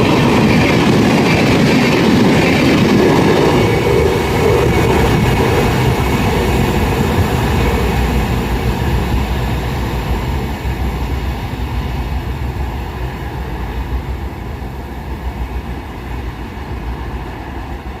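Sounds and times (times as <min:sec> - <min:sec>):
train wheels rumbling over rails: 0:00.0 - 0:18.0.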